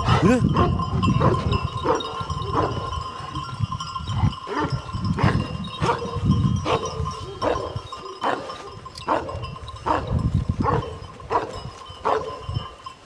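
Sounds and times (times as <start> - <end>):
dog barking: 0.0 - 2.9, 4.5 - 12.5
bell ringing: 0.3 - 13.0.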